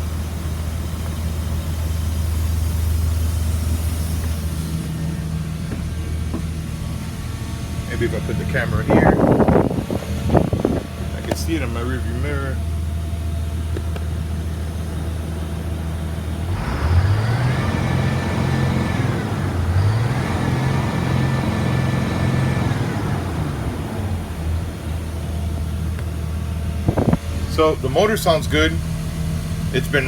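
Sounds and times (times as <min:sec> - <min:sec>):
bus diesel engine idling and revving: 0:00.0 - 0:30.0.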